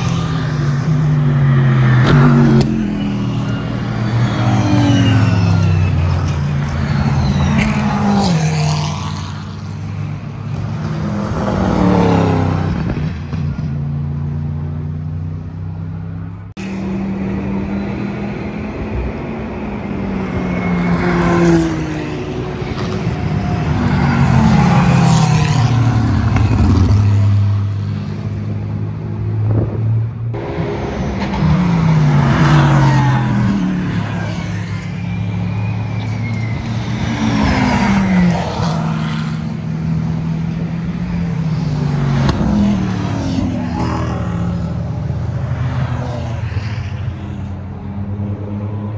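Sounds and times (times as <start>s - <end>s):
race car engines passing: 0.0s - 48.9s.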